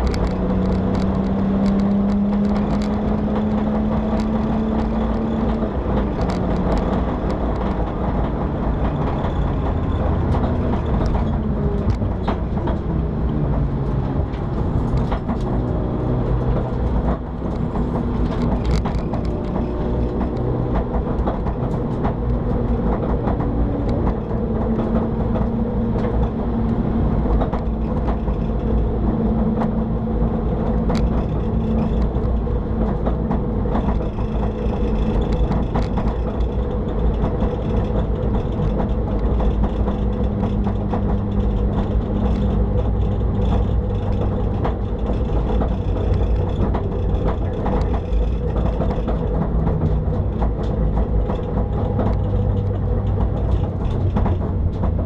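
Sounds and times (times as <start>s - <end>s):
car engine running: 0.0s - 55.0s
knocks and rattles: 0.0s - 55.0s.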